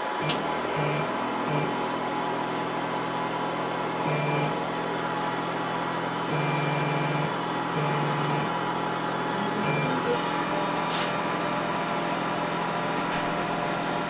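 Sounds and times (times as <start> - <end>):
low buzzing hum: 0.2 - 11.7.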